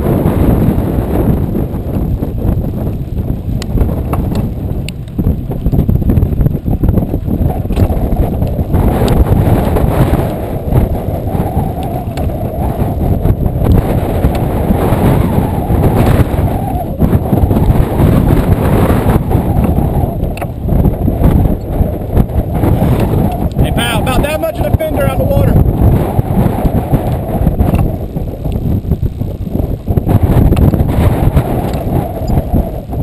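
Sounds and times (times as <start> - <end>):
boat running on choppy water: 0.0 - 33.0
wind buffeting microphone: 0.0 - 33.0.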